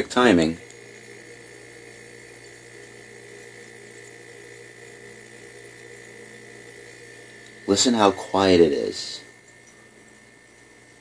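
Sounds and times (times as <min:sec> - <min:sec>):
faint high whine: 0:00.0 - 0:11.0
fridge compressor humming: 0:00.0 - 0:11.0.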